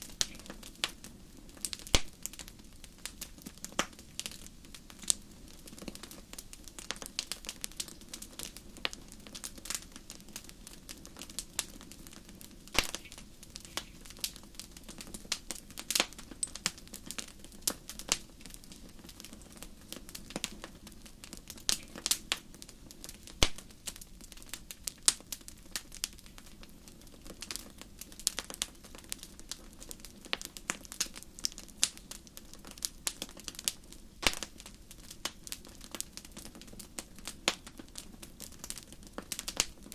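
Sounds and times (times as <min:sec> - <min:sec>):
soft low hiss: 0:00.0 - 0:39.9
wood fire crackling and popping: 0:00.0 - 0:39.9.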